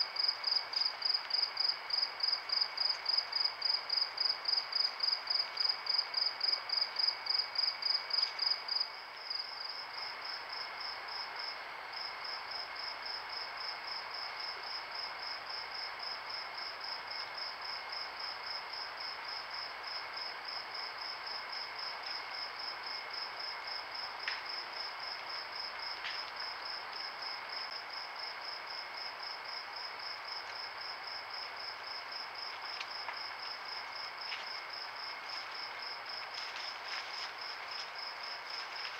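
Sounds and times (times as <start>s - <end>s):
night insects chirping: 0.0s - 38.9s.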